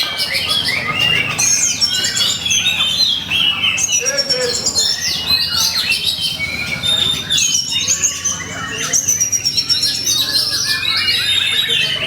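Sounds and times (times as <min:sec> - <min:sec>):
magpie-robin singing: 0:00.0 - 0:12.0.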